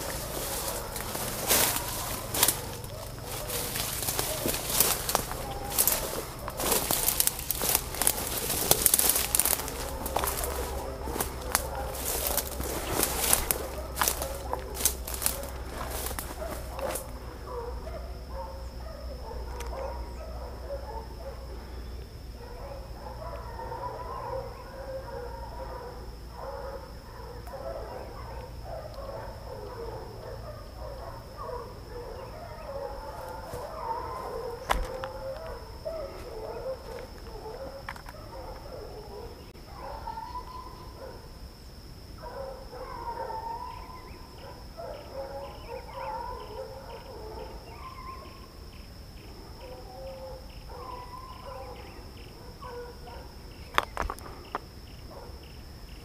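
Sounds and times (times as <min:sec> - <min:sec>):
dogs baying and howling: 0:00.0 - 0:56.0.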